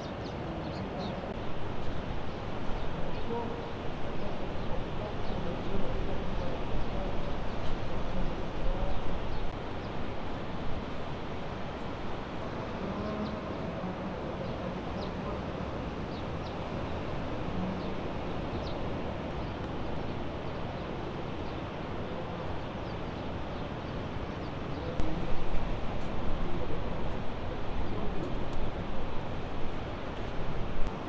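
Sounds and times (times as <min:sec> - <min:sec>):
wind: 0:00.0 - 0:31.0.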